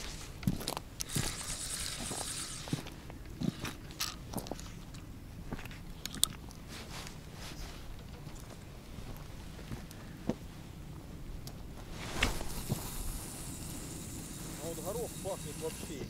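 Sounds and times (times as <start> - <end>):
rustle: 0.0 - 10.2, 11.7 - 14.9.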